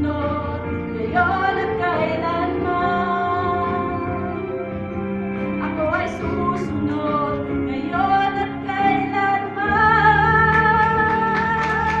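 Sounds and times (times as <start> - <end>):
woman singing into a microphone: 0.0 - 4.7, 5.6 - 12.0.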